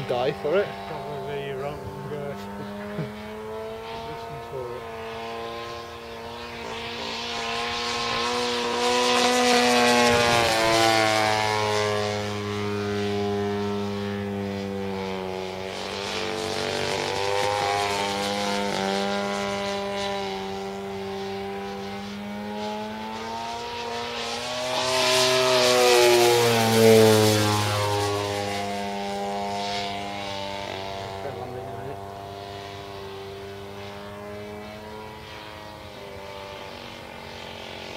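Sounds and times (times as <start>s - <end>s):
model plane engine in flight: 0.0s - 37.9s.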